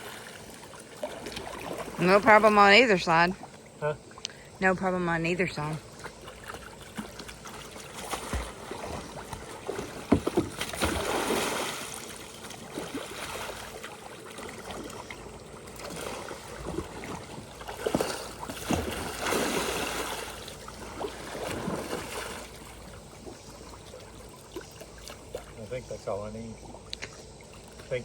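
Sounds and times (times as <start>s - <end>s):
water splashing around a kayak: 0.0s - 28.0s.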